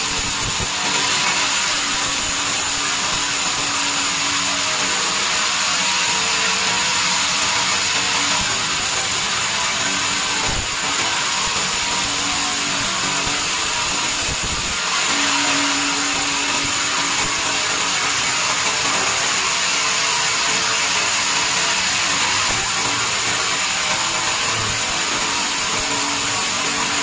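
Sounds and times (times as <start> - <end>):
band saw cutting timber: 0.0 - 27.0.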